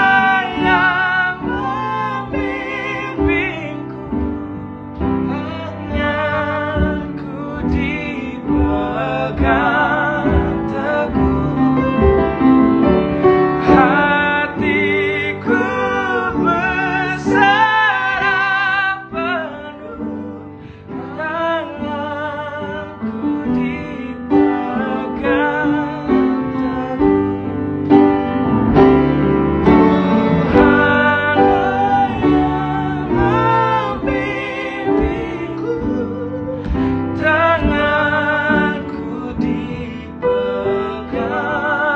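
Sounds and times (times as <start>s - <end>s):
men singing a gospel duet: 0.0s - 27.5s, 29.7s - 41.9s
piano accompaniment: 0.0s - 41.9s.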